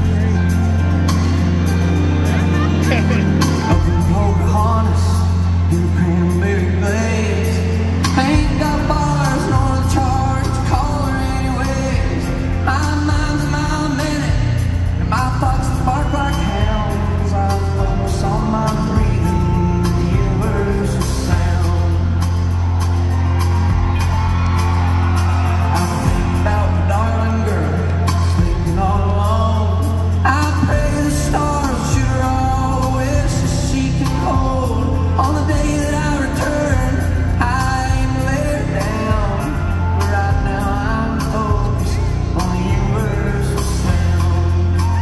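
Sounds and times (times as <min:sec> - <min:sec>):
man singing: 0:00.0 - 0:22.9, 0:25.6 - 0:45.0
acoustic guitar: 0:00.0 - 0:45.0
deep bass line: 0:00.0 - 0:45.0
live country band playing: 0:00.0 - 0:45.0
steady drum beat: 0:00.0 - 0:45.0.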